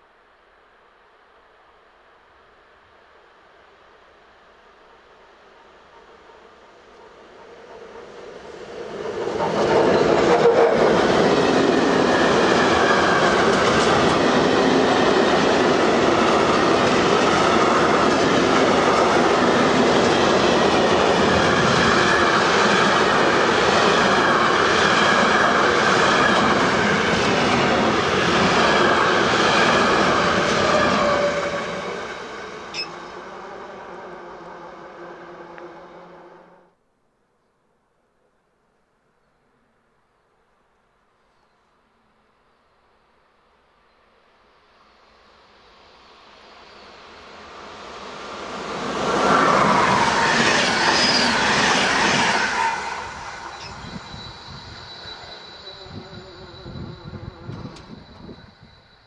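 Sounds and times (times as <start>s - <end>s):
train passing at speed: 0.8s - 36.8s, 43.6s - 59.0s.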